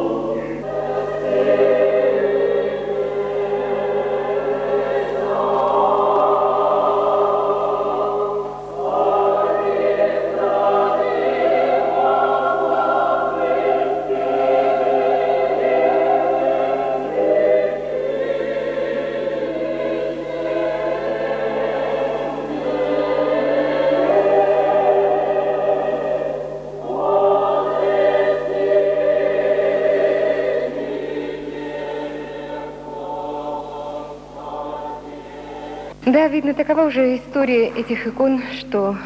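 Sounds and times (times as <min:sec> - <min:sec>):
choir singing sustained chords: 0:00.0 - 0:37.1
steady low hum: 0:00.0 - 0:39.0.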